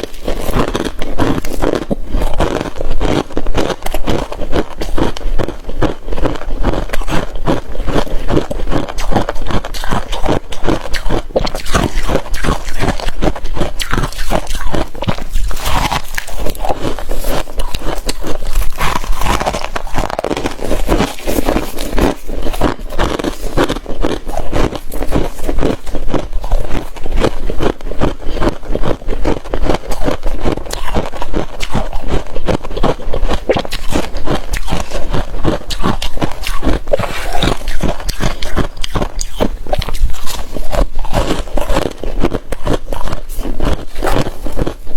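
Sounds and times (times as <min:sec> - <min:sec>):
frost crunching: 0:00.0 - 0:44.9.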